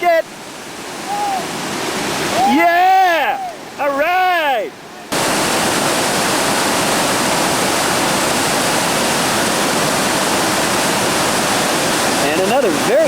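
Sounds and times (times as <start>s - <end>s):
whitewater roaring: 0.0s - 13.0s.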